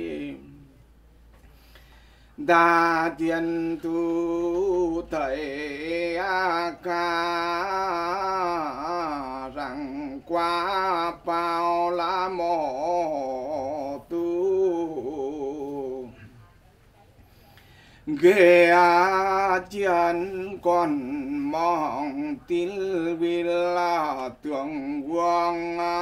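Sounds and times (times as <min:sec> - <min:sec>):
man chanting: 0:00.0 - 0:00.7, 0:02.4 - 0:16.3, 0:18.1 - 0:26.0.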